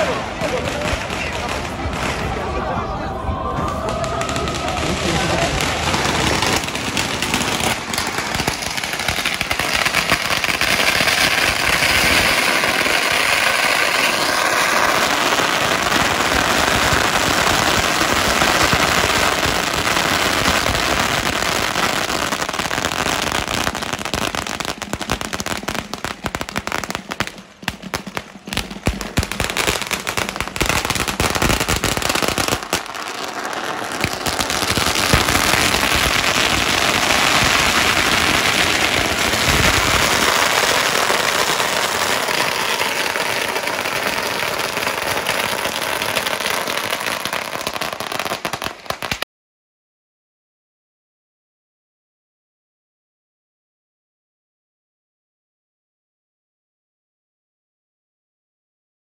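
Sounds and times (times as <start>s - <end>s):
firecrackers crackling: 0.0s - 49.2s.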